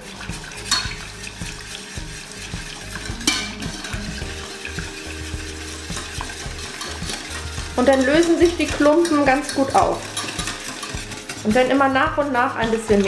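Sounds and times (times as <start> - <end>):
whisk knocking on pot: 0.0 - 13.0
whisk scraping and tapping pot: 0.0 - 13.0.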